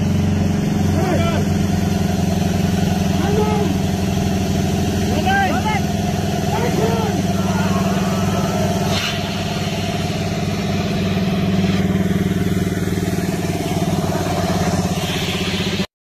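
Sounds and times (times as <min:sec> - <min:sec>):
heavy vehicle engine idling: 0:00.0 - 0:15.9.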